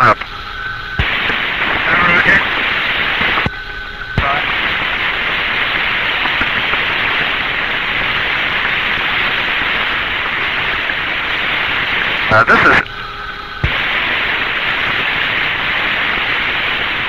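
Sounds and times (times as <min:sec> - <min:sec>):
faint steady tone: 0:00.0 - 0:17.0
radio static hiss: 0:00.0 - 0:17.0.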